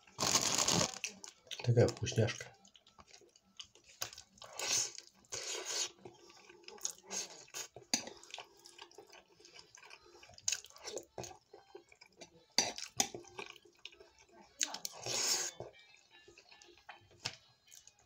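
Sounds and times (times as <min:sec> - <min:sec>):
wet chewing: 0:00.2 - 0:18.0.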